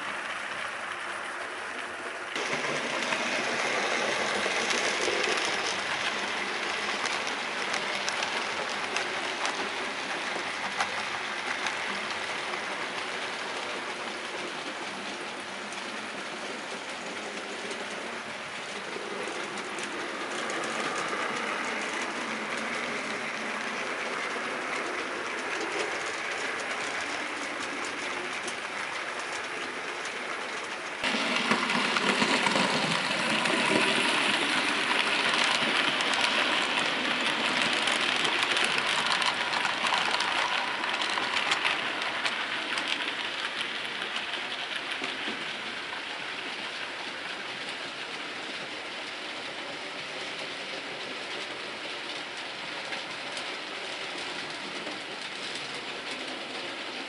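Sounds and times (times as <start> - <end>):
model train wheels on rails: 0.0 - 57.0.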